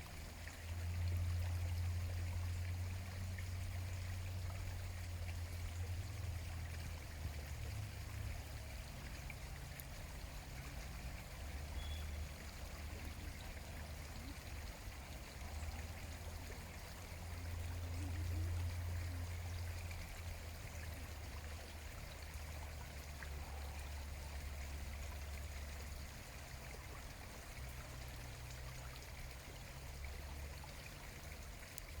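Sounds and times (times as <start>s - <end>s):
water rushing: 0.0s - 32.0s.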